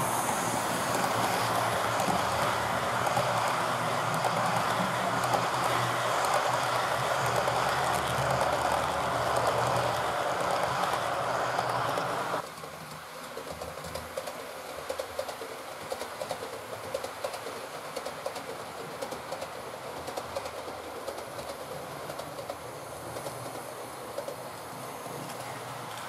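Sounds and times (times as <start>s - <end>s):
model train rolling rattle: 0.0s - 26.0s.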